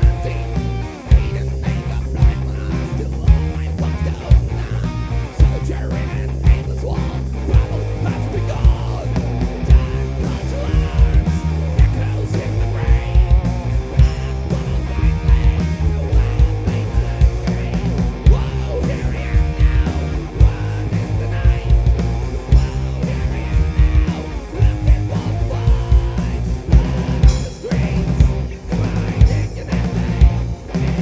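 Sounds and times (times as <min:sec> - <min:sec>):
blues-rock band playing live: 0:00.0 - 0:31.0.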